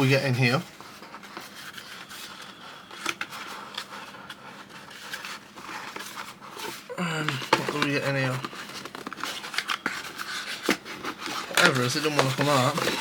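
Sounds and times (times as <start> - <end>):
cardboard rustling and scraping: 0.0 - 13.0.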